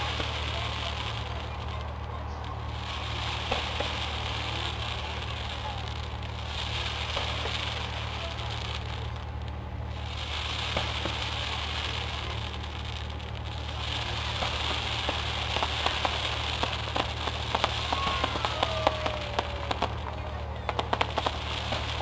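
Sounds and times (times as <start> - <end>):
fireworks crackling pops: 0.0 - 22.0
fireworks hissing: 0.0 - 22.0.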